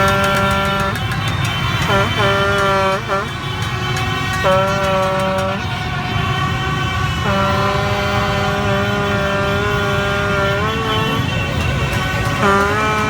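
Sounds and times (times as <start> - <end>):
horn blast: 0.0 - 13.0
vehicle engines rumbling: 0.0 - 13.0.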